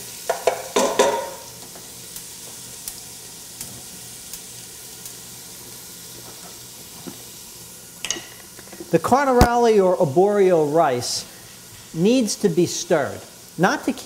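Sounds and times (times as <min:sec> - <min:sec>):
onion sizzling in oil: 0:00.0 - 0:14.0.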